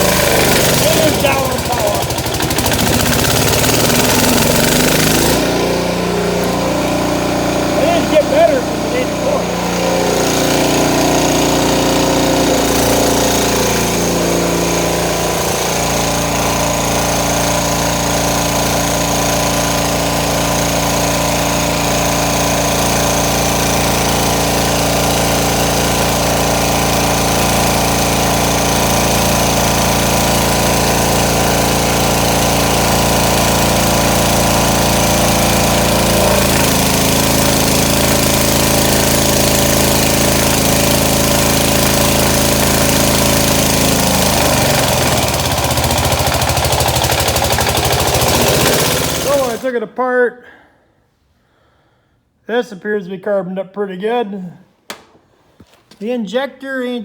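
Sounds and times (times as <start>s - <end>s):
diesel generator engine running: 0.0s - 49.6s.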